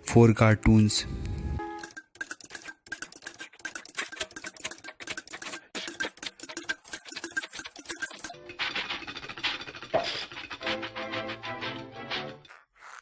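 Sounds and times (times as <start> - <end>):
rapid clicking and tapping: 1.8 - 12.4.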